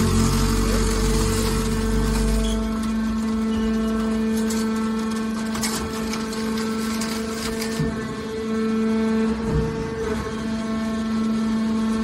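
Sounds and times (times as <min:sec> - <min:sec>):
hydraulic baler humming: 0:00.0 - 0:12.0.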